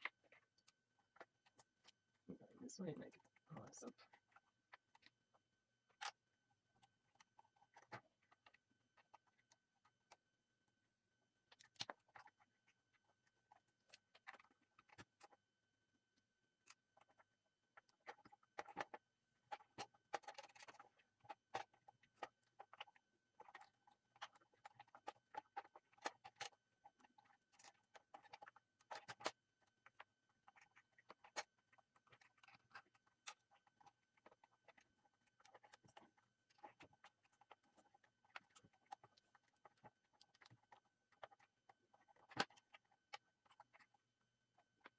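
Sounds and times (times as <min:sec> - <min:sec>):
small clicks and rustles: 0:00.0 - 0:44.9.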